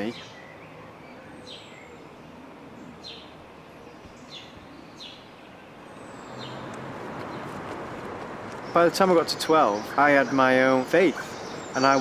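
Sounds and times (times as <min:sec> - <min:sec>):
bird chirping: 0:00.0 - 0:12.0
outdoor background hiss: 0:00.0 - 0:12.0.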